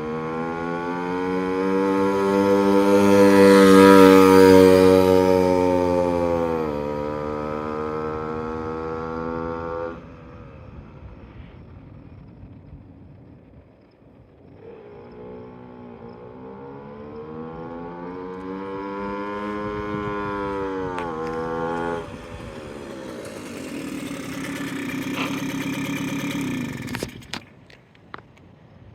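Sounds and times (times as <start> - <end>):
moped engine whining: 0.0 - 28.5.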